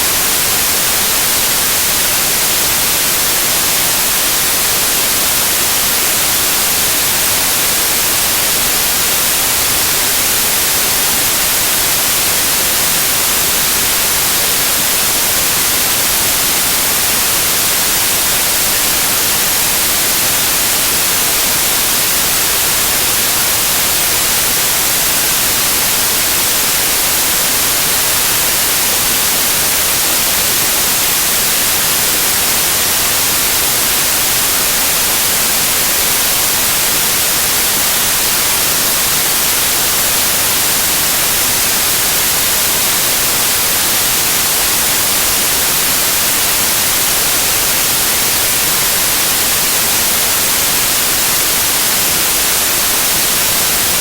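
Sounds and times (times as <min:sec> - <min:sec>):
loud white noise hiss: 0:00.0 - 0:54.0.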